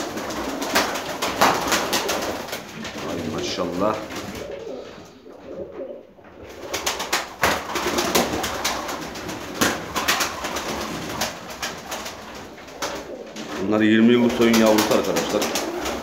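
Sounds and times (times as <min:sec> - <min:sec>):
wing flaps and claps: 0:00.0 - 0:03.4, 0:06.4 - 0:16.0
pigeons cooing: 0:00.0 - 0:16.0.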